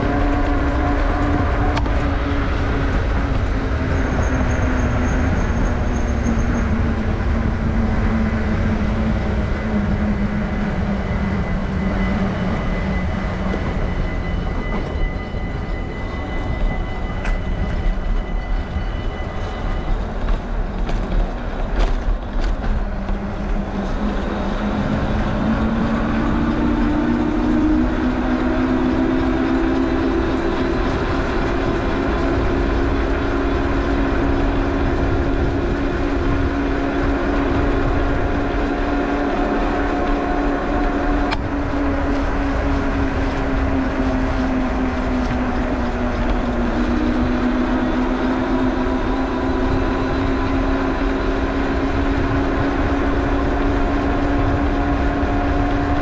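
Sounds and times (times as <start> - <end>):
bicycle tyre noise: 0.0 - 56.0
electric train motor whine: 0.0 - 56.0
wind rush: 0.0 - 56.0.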